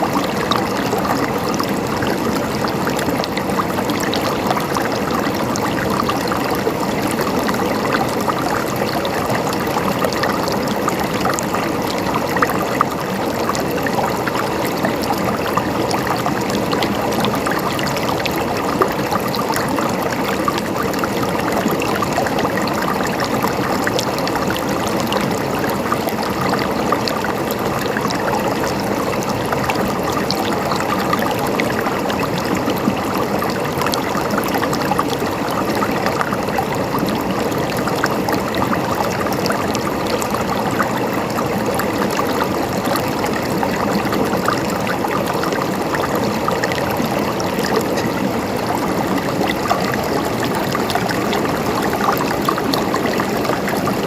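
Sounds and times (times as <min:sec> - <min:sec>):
river water flowing over rocks: 0:00.0 - 0:54.0.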